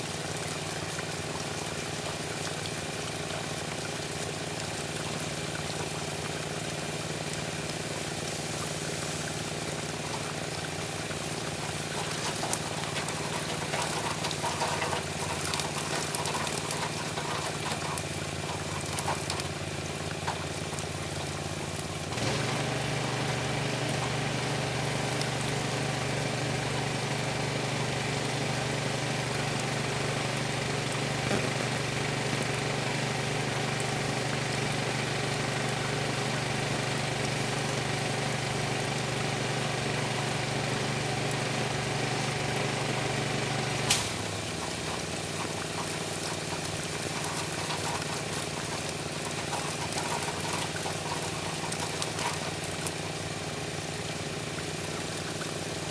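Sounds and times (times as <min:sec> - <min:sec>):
water jet spraying pavement: 0:00.0 - 0:55.9
pressure washer engine running: 0:04.8 - 0:55.9.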